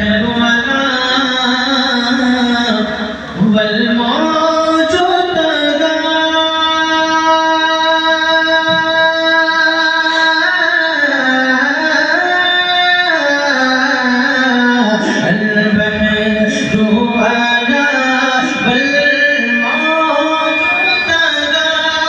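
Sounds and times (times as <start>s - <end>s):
man singing into microphone: 0.0s - 22.0s.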